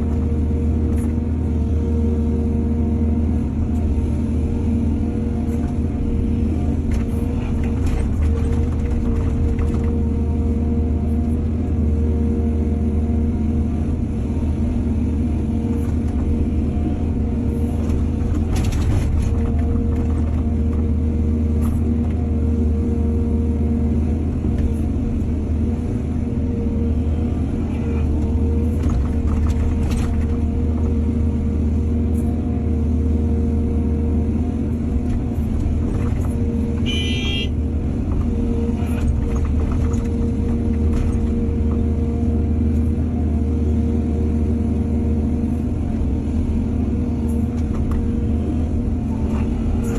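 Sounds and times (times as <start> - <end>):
diesel engines running: 0.0 - 49.9.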